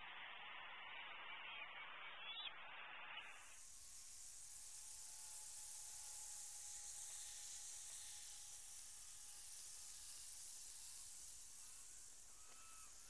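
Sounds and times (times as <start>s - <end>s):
faint thin whistles: 0.8s - 13.0s
microphone hiss: 1.0s - 13.0s
faint steady tone: 1.1s - 13.0s.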